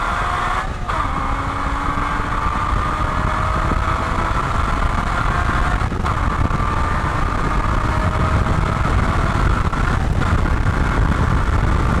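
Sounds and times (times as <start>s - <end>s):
car engine at full throttle: 0.0s - 12.0s
gear upshifts: 0.0s - 12.0s.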